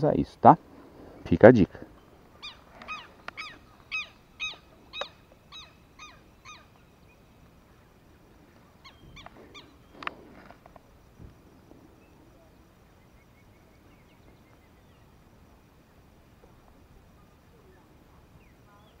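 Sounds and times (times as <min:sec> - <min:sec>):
bird calling: 0:00.8 - 0:16.1.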